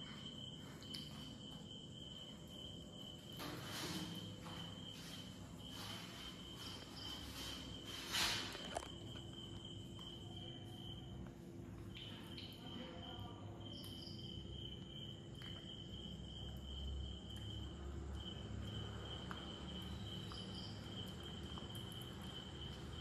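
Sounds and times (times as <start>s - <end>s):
cricket trilling: 0.0s - 23.0s.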